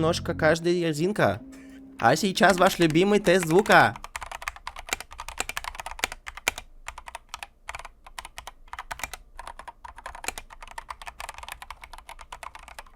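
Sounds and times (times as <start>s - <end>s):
mechanical keyboard typing: 2.4s - 12.9s.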